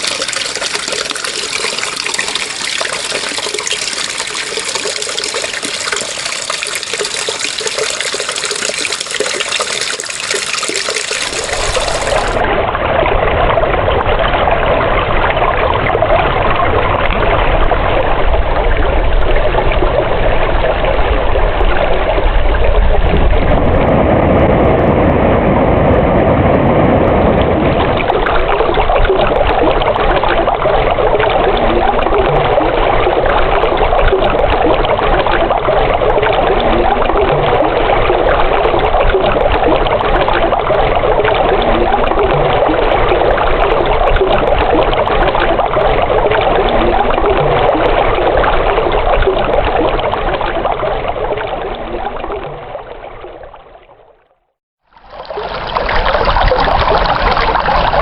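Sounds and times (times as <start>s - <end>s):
running water rushing: 0.0s - 23.8s, 27.4s - 58.0s.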